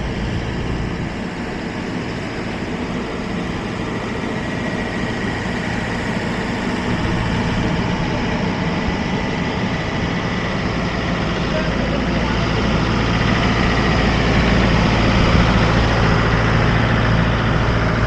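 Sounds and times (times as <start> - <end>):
heavy engine idling: 0.0 - 18.0
thin steady whine: 0.0 - 18.0.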